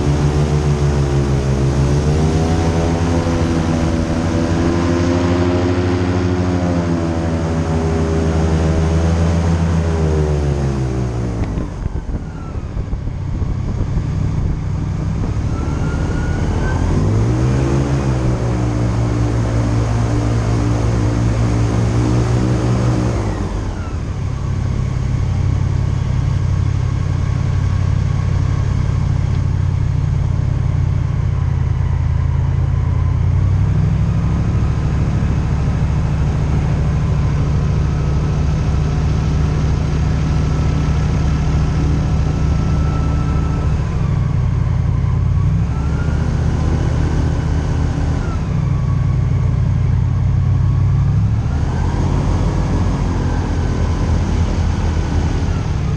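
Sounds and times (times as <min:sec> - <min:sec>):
airboat engine and propeller: 0:00.0 - 0:55.9.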